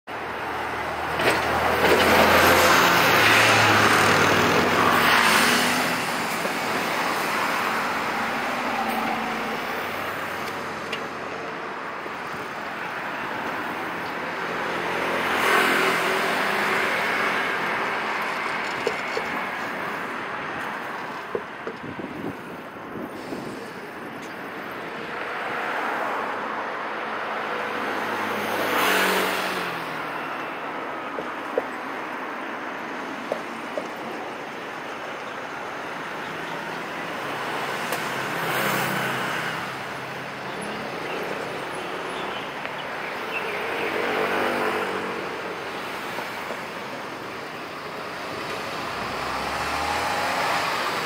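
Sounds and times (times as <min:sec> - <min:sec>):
steady traffic rumble: 0:00.0 - 0:51.0
vehicles passing close by: 0:00.1 - 0:51.0.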